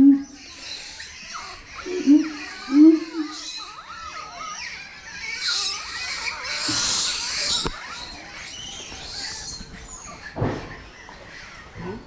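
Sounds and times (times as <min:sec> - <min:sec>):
animal squeaks and chirps: 0:00.2 - 0:11.7.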